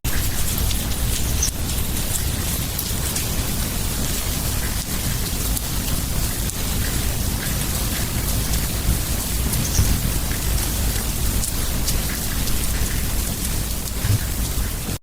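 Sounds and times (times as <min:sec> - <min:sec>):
rain falling: 0:00.1 - 0:15.0.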